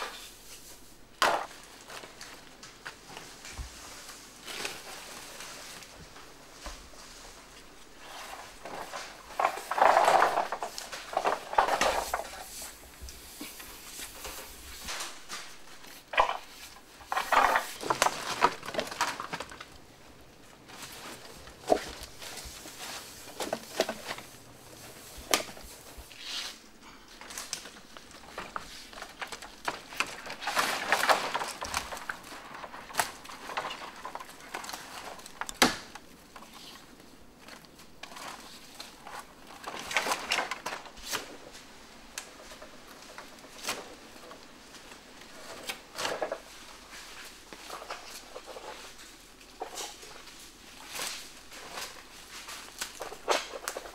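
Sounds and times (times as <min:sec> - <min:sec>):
rustling: 0:00.0 - 0:53.9.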